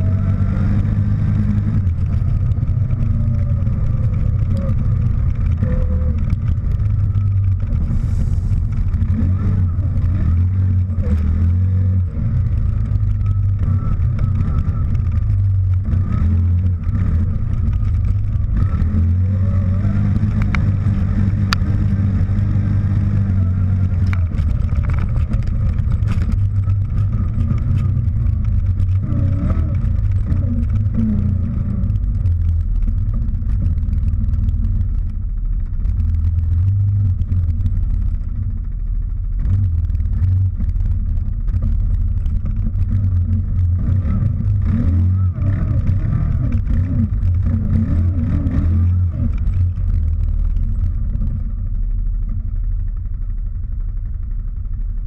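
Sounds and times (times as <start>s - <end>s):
atv engine running under load: 0.0s - 55.0s.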